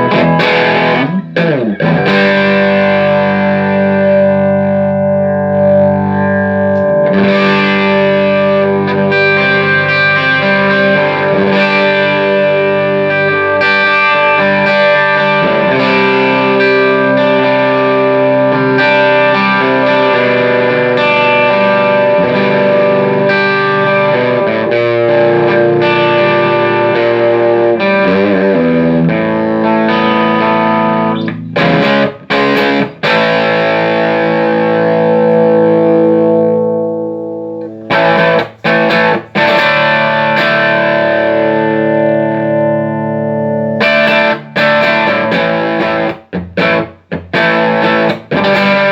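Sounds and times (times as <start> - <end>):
electric guitar chords through tube amp: 0.0 - 48.9.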